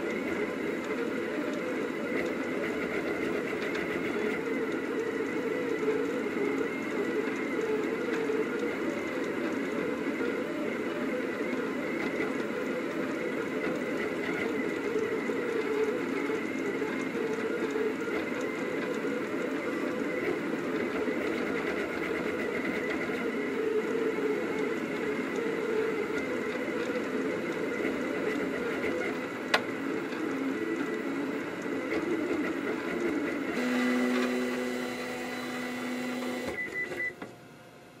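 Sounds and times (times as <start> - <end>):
stepper motors whirring: 0.0 - 37.1
steady low motor whine: 0.0 - 38.0.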